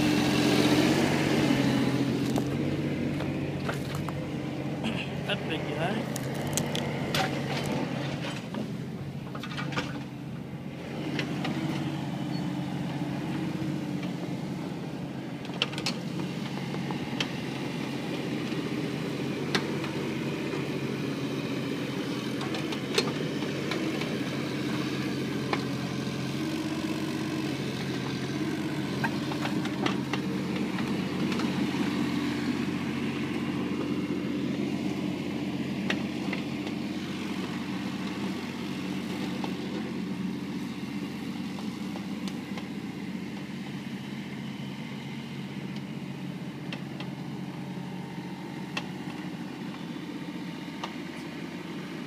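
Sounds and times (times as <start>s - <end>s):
excavator engine running: 0.0s - 52.0s.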